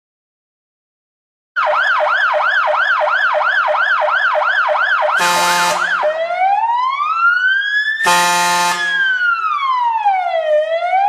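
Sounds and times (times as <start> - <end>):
electronic siren yelping: 1.6 - 11.0.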